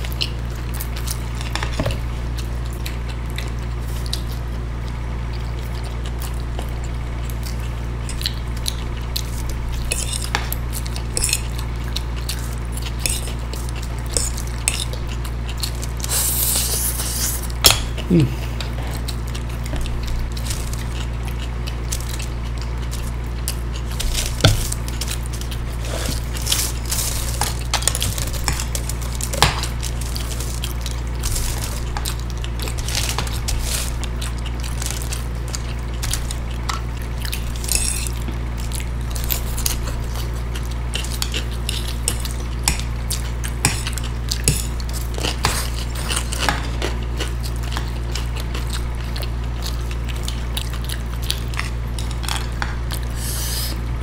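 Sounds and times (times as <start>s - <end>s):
chewing and slurping: 0.0s - 54.0s
steady low hum: 0.0s - 54.0s.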